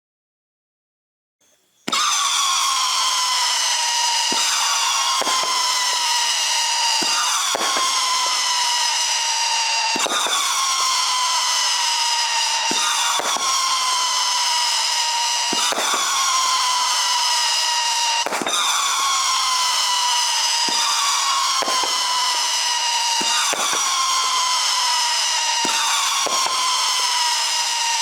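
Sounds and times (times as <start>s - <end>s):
fireworks popping: 1.5s - 28.0s
fireworks screeching howl: 1.8s - 28.0s.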